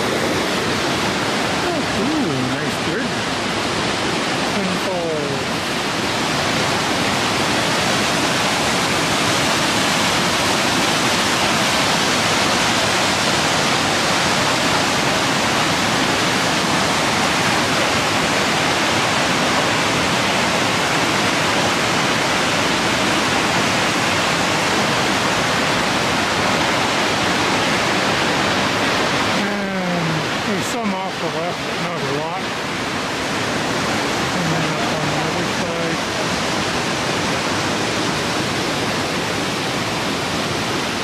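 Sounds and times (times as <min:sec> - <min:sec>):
whitewater rushing over rocks: 0:00.0 - 0:41.0.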